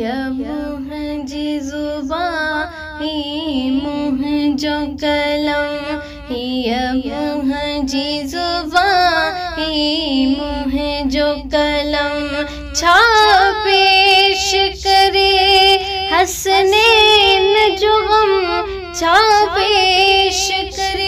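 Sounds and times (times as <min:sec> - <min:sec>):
steady held drone: 0:00.0 - 0:21.0
woman singing a lament: 0:00.0 - 0:21.0.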